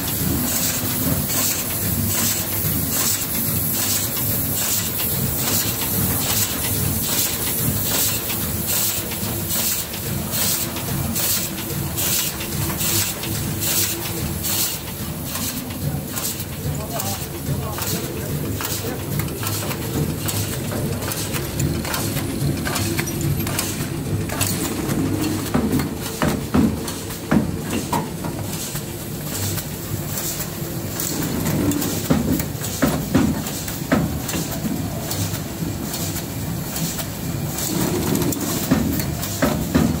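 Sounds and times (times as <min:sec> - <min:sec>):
clicks and clacks of moving parts: 0:00.0 - 0:40.0
machine mechanical hum: 0:00.0 - 0:40.0.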